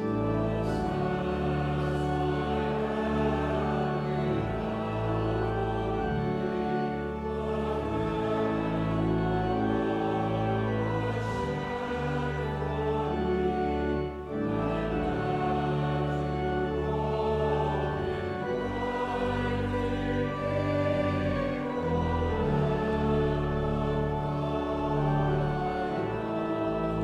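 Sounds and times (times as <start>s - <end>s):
choir singing sacred music: 0.0s - 27.0s.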